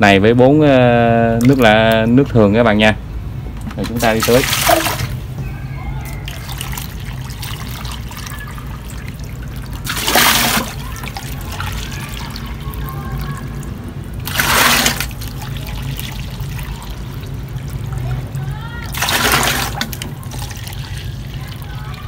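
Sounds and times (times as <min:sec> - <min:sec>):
water splashes: 0:01.2 - 0:02.3, 0:03.7 - 0:05.4, 0:06.0 - 0:22.0
liquid trickling into watering can: 0:01.3 - 0:02.1, 0:03.7 - 0:05.3, 0:06.0 - 0:22.0.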